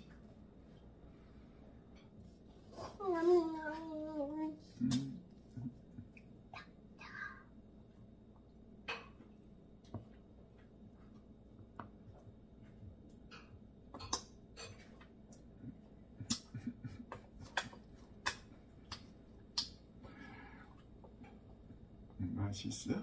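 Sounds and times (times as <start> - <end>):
faint steady background noise: 0.0 - 23.0.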